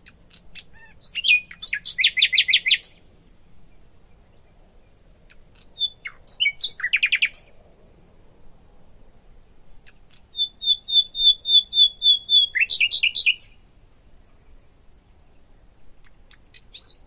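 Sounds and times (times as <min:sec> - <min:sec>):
songbird singing trills: 0:00.0 - 0:07.6, 0:09.7 - 0:13.7, 0:14.3 - 0:17.0.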